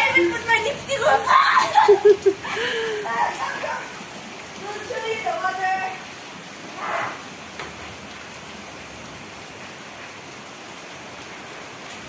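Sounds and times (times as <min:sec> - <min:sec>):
rain on concrete and plastic: 0:00.0 - 0:12.0
rush of water: 0:00.0 - 0:12.0.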